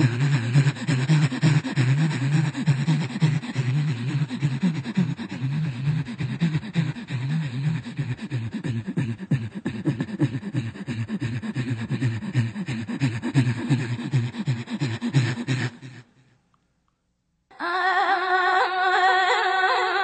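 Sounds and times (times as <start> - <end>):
person making rhythmic pulsing sounds: 0.0 - 16.2.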